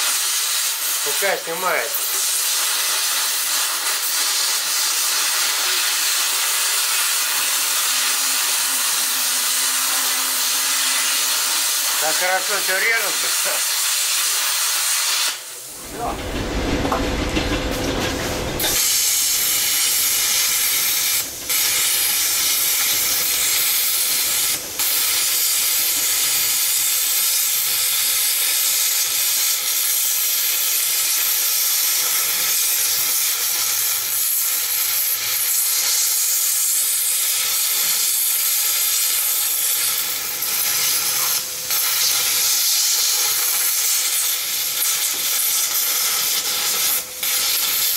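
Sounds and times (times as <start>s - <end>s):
plasma cutter hissing: 0.0s - 47.9s.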